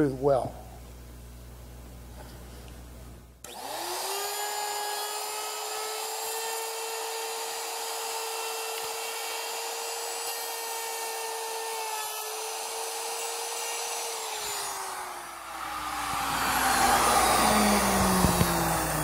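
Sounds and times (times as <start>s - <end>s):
electric router motor whine: 3.4s - 19.0s.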